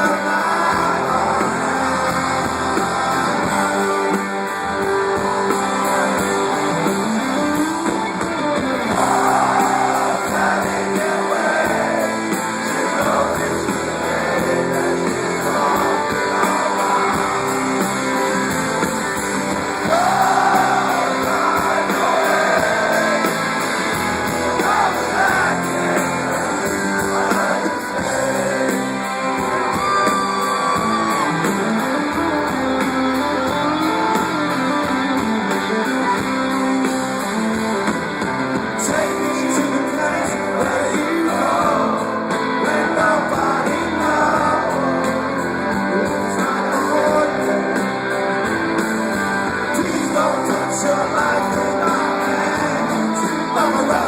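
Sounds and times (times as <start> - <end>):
person singing: 0.0 - 7.4, 8.8 - 18.6, 19.7 - 24.0, 24.6 - 36.4, 38.8 - 48.2, 49.6 - 54.0
guitar playing: 0.0 - 54.0
live rock band: 0.0 - 54.0.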